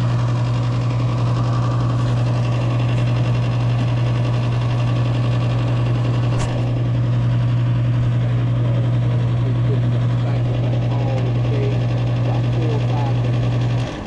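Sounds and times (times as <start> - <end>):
furnace motor humming: 0.0 - 14.0.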